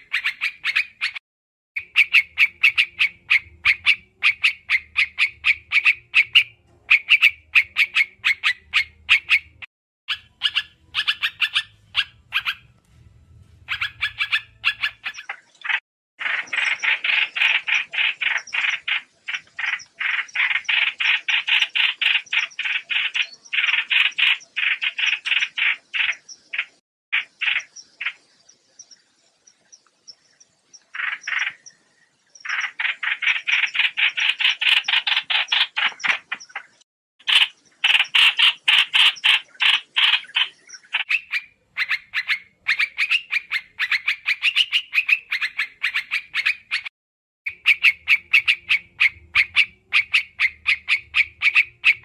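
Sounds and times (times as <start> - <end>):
bird chattering calls: 0.0 - 1.2, 1.8 - 12.7, 13.7 - 28.3, 30.8 - 31.8, 32.4 - 46.9, 47.5 - 52.0.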